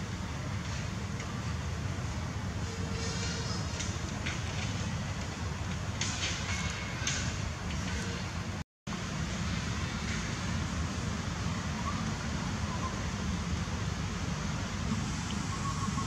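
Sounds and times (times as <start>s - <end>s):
outdoor background rumble: 0.0s - 16.0s.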